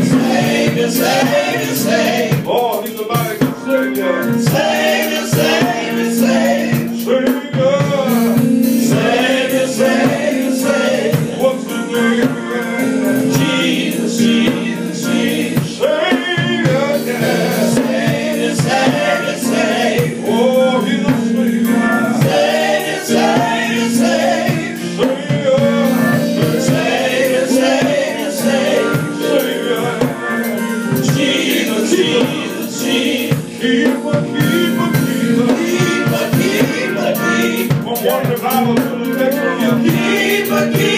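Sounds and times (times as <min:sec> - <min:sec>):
band accompaniment: 0:00.0 - 0:40.9
choir voices singing: 0:00.0 - 0:40.9
lead singer on microphone: 0:00.0 - 0:40.9.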